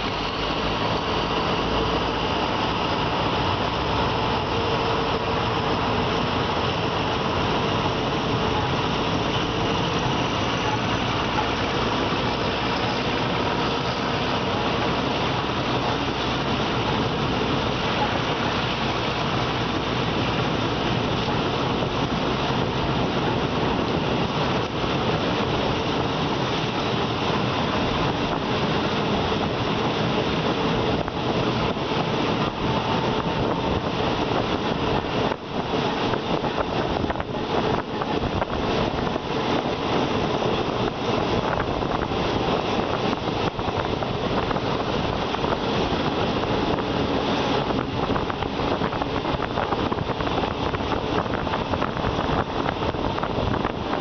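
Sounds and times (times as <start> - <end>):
train wheel and rail noise: 0.0 - 54.0
wind on microphone: 0.0 - 54.0.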